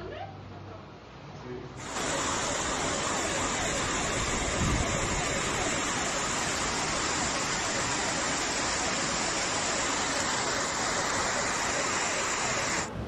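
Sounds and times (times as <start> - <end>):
heavy hail and rain: 1.8 - 12.9.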